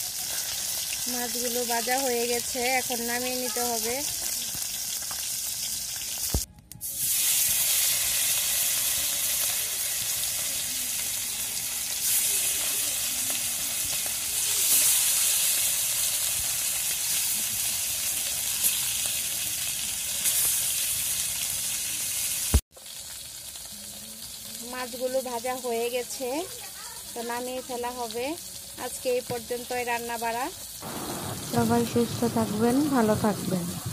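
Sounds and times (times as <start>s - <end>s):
fish sizzling in hot oil: 0.0s - 33.3s.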